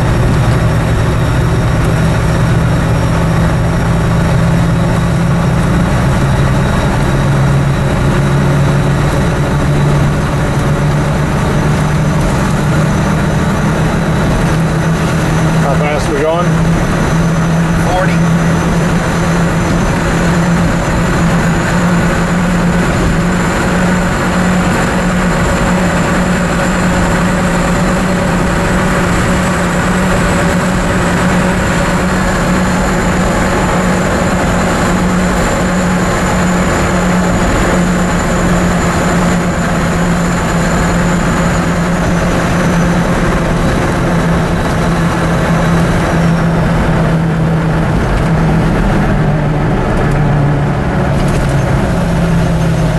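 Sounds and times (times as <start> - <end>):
road and tyre noise: 0.0 - 52.9
truck engine drone: 0.0 - 52.9.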